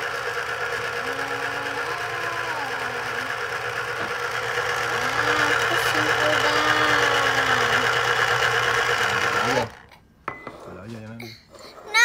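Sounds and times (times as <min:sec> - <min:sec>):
citrus juicer motor whirring: 0:00.0 - 0:10.0.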